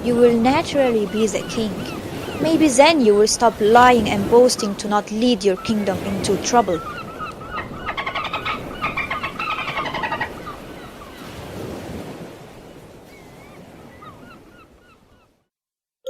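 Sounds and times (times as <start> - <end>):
birds calling: 0.0 - 15.4
sea waves: 0.0 - 15.5.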